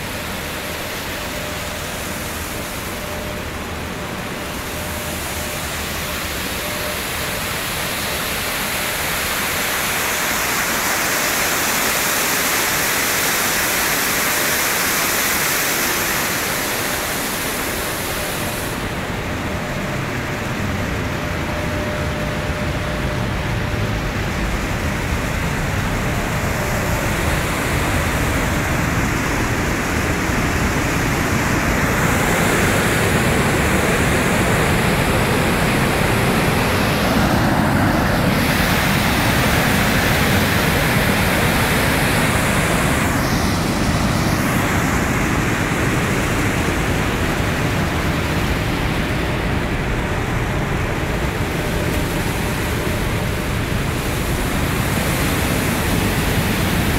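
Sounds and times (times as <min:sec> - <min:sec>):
water rushing over a dam: 0:00.0 - 0:56.9.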